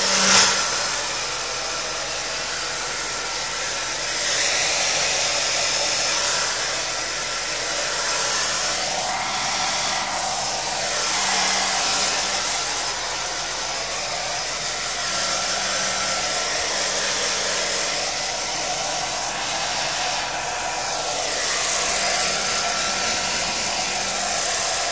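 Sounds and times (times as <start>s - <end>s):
hair dryer blowing: 0.0s - 24.9s.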